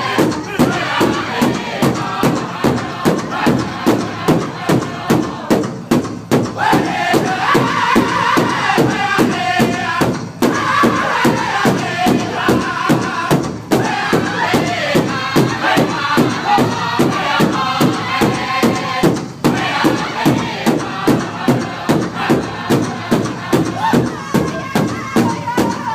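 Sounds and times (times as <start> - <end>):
group singing chant-like phrases: 0.0 - 25.9
large drum beating steadily: 0.0 - 25.9.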